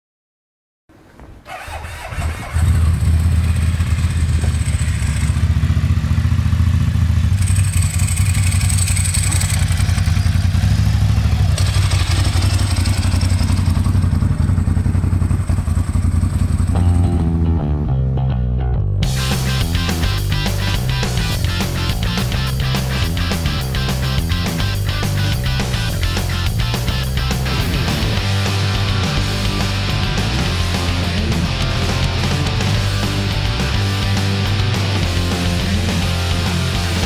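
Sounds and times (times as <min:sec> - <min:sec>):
motorcycle engine running: 0:02.3 - 0:17.5, 0:19.0 - 0:37.0.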